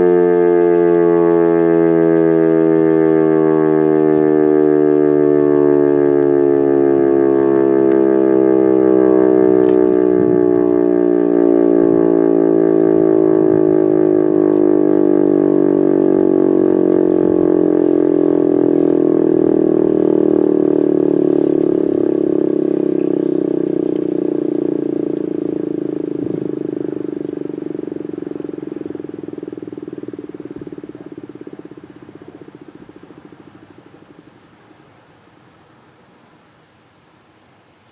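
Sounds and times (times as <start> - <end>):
warning siren winding down: 0.0 - 35.6.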